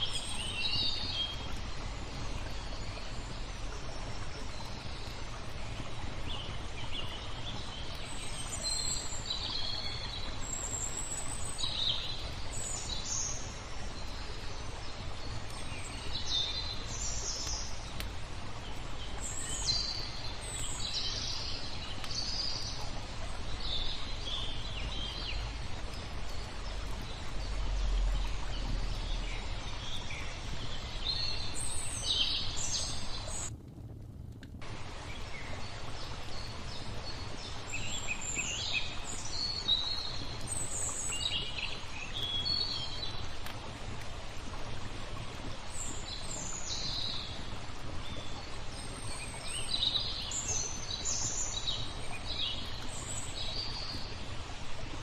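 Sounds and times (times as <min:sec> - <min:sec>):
songbirds chirping: 0:00.0 - 0:33.5, 0:34.6 - 0:55.0
flowing water hiss: 0:00.0 - 0:55.0.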